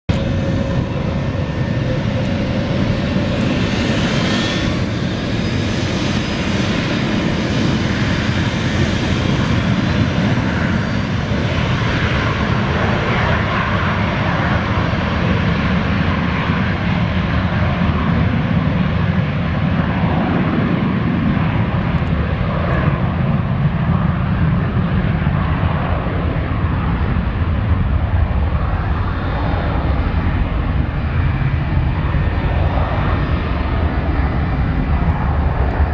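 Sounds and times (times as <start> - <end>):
faint jet whine: 0.1 - 35.9
jet engines at takeoff: 0.1 - 35.9.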